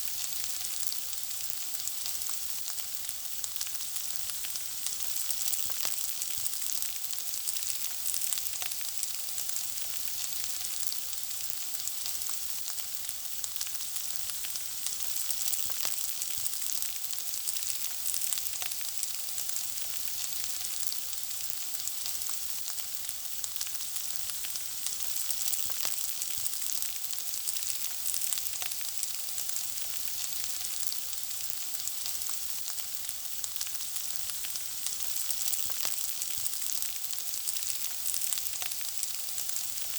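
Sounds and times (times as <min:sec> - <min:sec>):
food sizzling in hot oil: 0:00.0 - 0:39.9
oil crackling and popping: 0:00.0 - 0:39.9.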